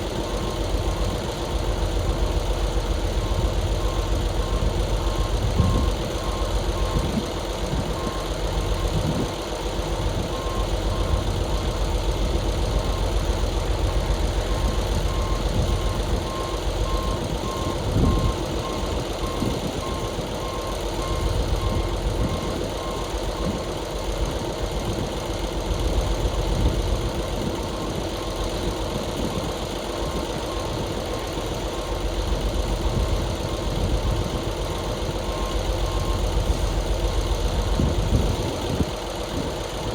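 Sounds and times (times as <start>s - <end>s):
reversing alarm beeping: 0.0s - 24.0s, 27.5s - 37.8s
truck diesel engine running: 0.0s - 39.9s.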